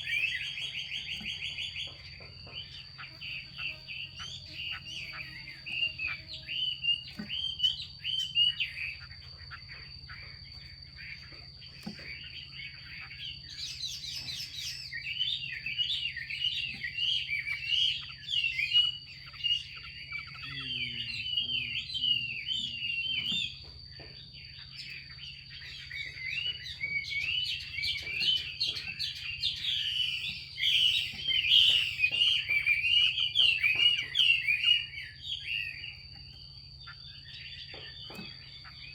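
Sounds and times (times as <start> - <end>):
bird chattering calls: 0.0 - 38.9.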